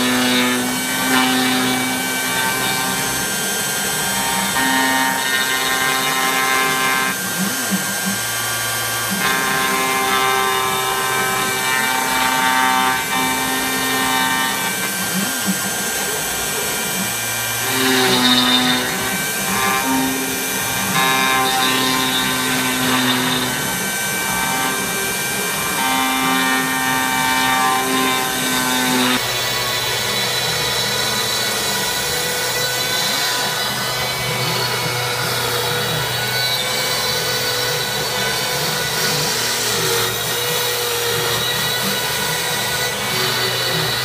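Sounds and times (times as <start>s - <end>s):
machine motors steady tones: 0.0s - 44.0s
router bit carving wood: 0.0s - 44.0s.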